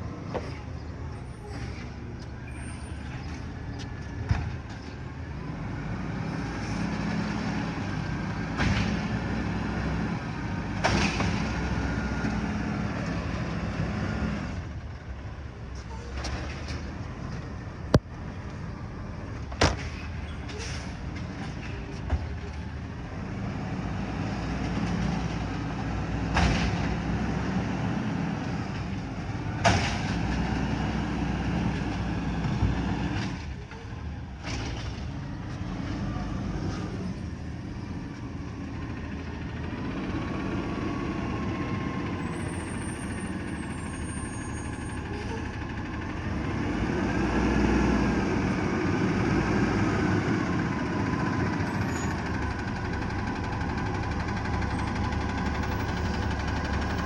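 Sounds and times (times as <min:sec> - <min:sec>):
garbage truck running: 0:00.0 - 0:57.0.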